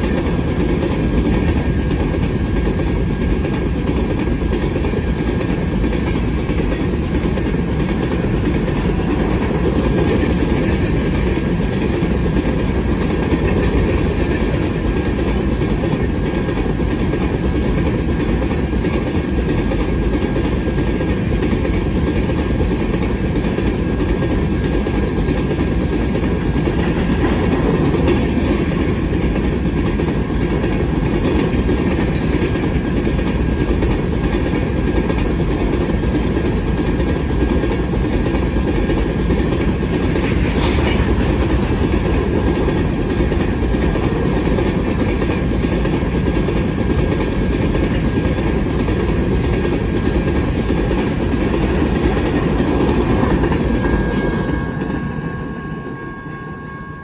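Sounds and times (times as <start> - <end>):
train wheels clattering on rails: 0.0 - 56.2.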